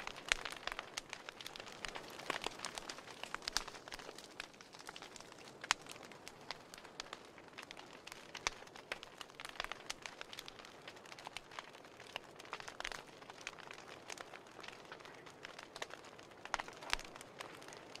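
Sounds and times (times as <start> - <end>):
log fire crackling and popping: 0.0 - 18.0.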